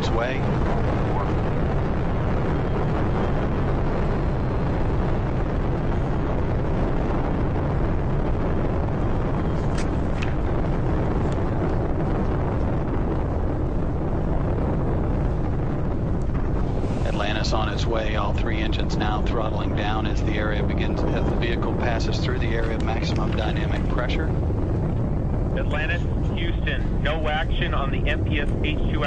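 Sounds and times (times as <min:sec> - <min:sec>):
rocket exhaust rumble: 0:00.0 - 0:29.0.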